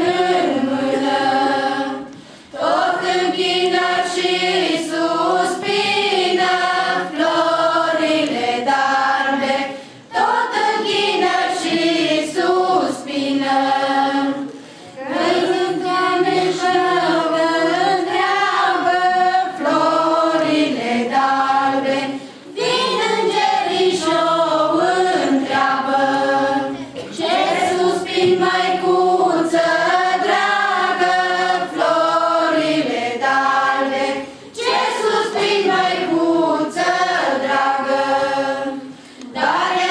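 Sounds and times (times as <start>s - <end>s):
group singing a carol: 0.0s - 39.9s.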